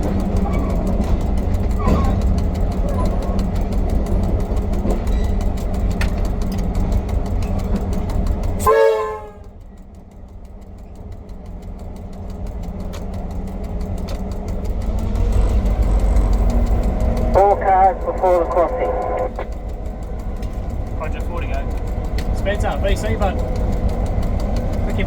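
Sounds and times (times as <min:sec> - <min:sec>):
diesel locomotive engine rumbling: 0:00.0 - 0:25.0.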